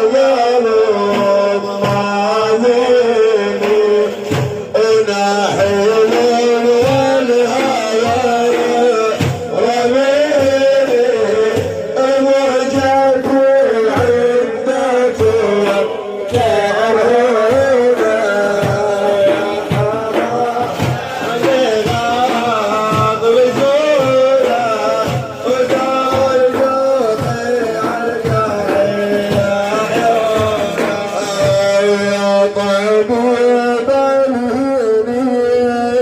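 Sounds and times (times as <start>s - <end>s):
hand drum beat: 0.3s - 32.6s.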